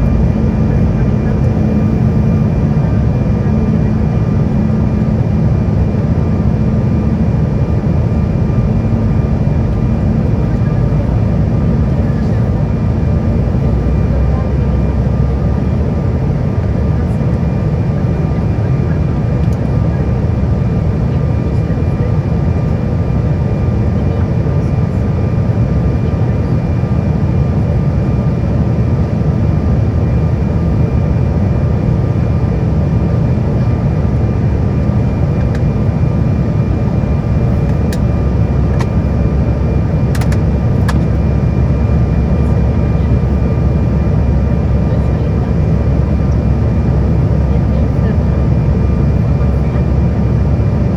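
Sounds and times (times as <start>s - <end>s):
jet cabin rumble: 0.0s - 50.9s.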